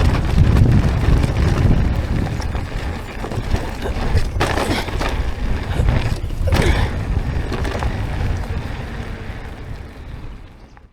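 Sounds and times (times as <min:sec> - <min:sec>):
bicycle clicks and rattles: 0:00.0 - 0:10.9
wind buffeting microphone: 0:00.0 - 0:10.9.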